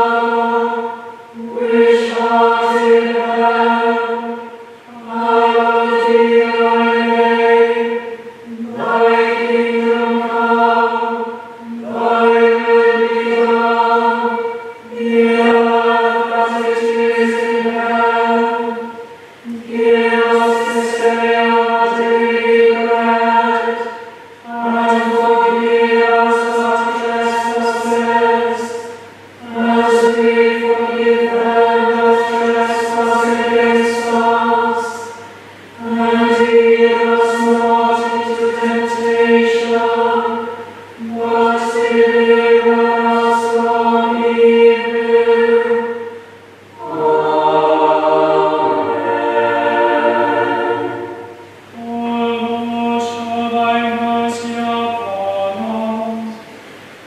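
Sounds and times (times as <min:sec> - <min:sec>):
choir chanting: 0:00.0 - 0:56.6.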